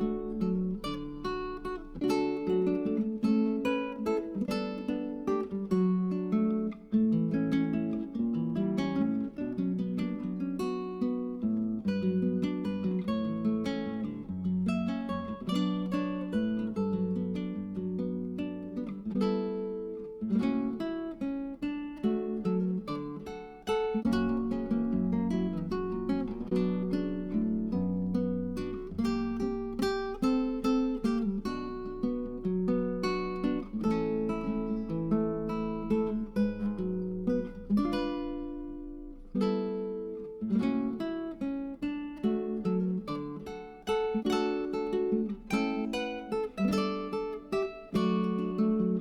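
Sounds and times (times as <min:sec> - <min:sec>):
acoustic guitar picking and strumming: 0:00.0 - 0:49.0.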